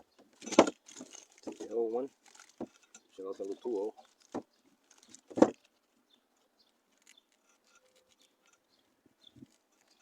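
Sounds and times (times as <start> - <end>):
small clicks and scrapes of parts: 0.3 - 10.0.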